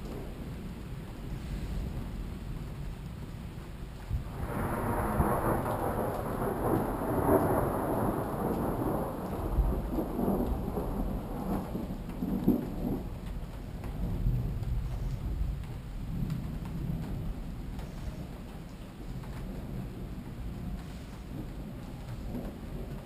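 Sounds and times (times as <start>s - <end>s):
falling rain: 0.0s - 23.0s
thunder rolling: 4.0s - 23.0s.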